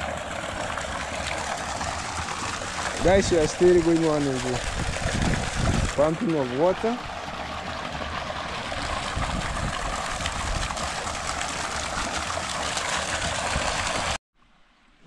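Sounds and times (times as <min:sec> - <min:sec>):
water pouring into pond: 0:00.0 - 0:14.2.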